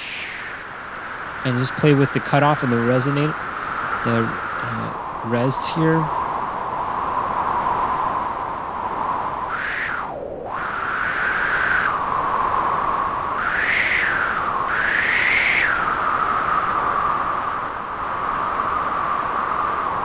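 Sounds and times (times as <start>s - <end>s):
synthesized wind whistling hiss: 0.0s - 20.0s.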